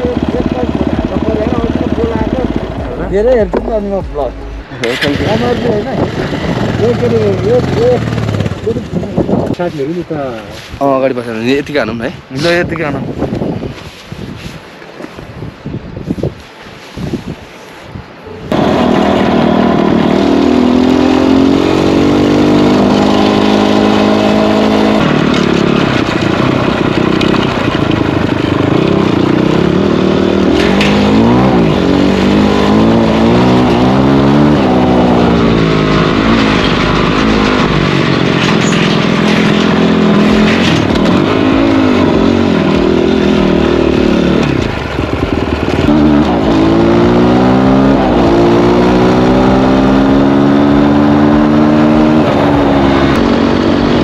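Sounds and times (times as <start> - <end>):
dirt bike engine revving: 0.0 - 9.3, 18.5 - 54.0
wind noise: 0.0 - 54.0.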